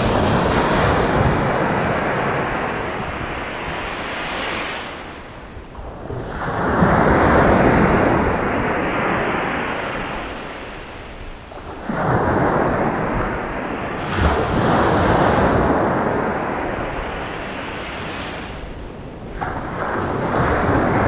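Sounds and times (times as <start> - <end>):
sea waves breaking on beach: 0.0 - 21.0.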